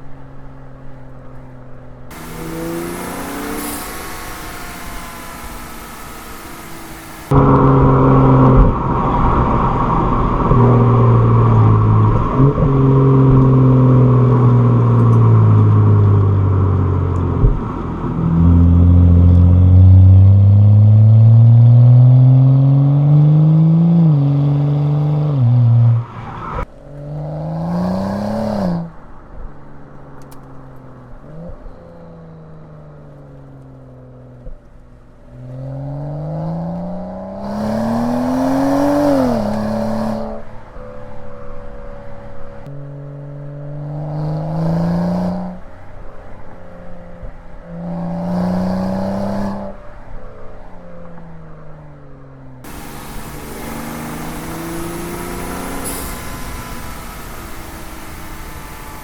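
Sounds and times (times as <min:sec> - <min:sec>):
car engine accelerating: 0:00.0 - 0:45.8, 0:52.6 - 0:59.0.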